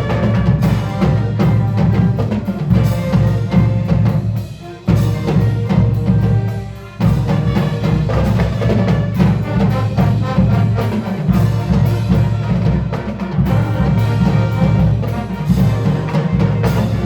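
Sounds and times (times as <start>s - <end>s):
drums beating steady rhythm: 0.0s - 17.0s
marching band playing: 0.0s - 17.0s.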